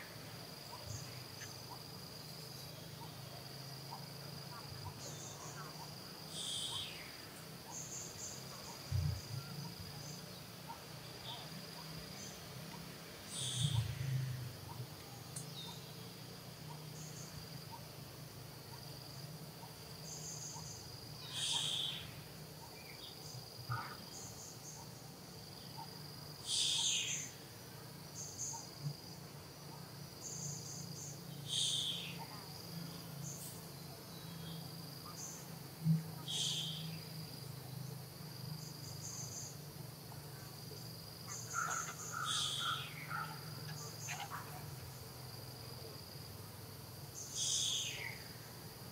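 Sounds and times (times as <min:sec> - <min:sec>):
insects trilling: 0:00.0 - 0:48.9.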